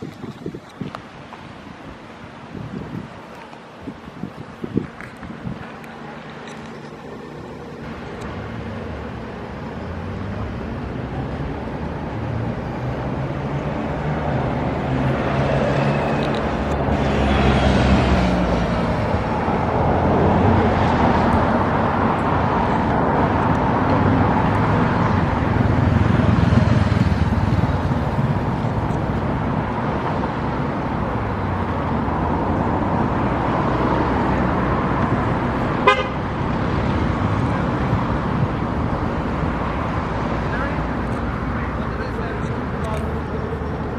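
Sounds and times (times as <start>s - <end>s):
motor traffic noise: 0.0s - 43.9s.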